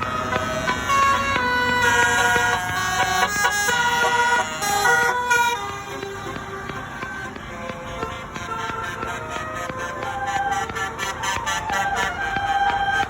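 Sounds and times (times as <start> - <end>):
multi-tone bus horn melody: 0.0 - 13.0.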